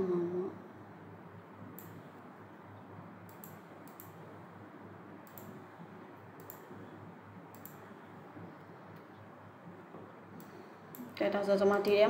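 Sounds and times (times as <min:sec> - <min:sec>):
low microphone hum: 0:00.0 - 0:12.0.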